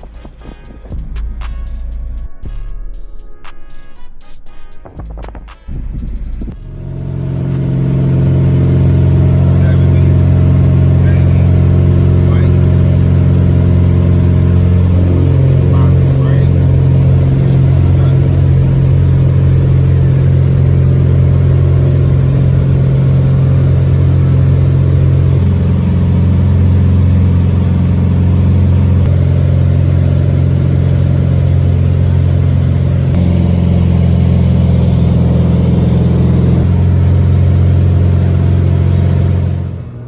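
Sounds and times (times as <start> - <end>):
car driving drone: 0.0 - 40.0.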